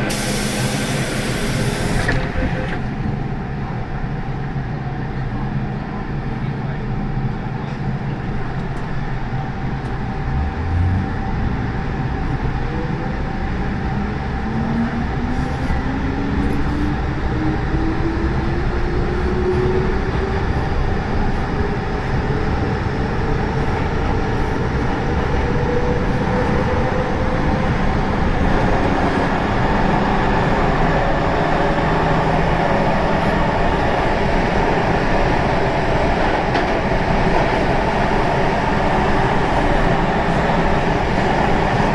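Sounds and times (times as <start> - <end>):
train rumbling at speed: 0.0 - 41.9.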